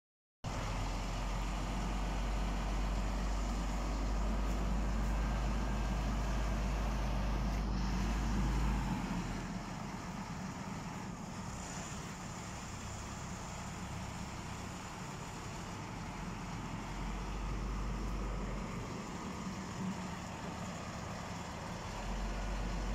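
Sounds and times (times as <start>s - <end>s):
heavy diesel engine droning: 0.5s - 22.9s.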